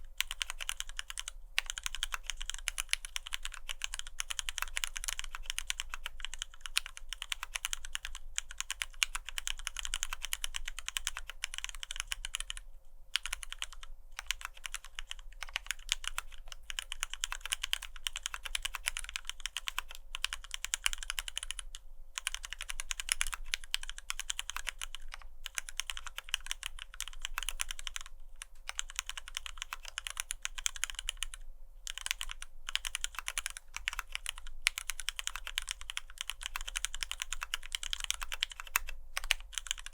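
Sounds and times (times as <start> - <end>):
faint steady hum: 0.0 - 39.9
mechanical keyboard typing: 0.0 - 39.9.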